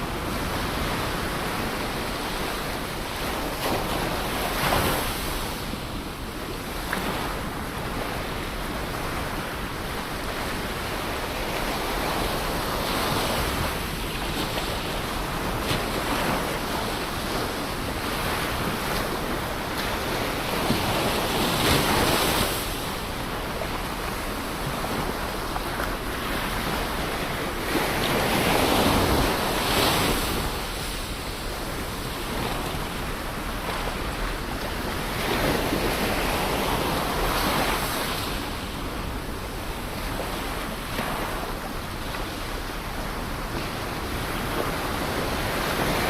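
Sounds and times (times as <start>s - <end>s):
ocean waves on shore: 0.0s - 46.0s.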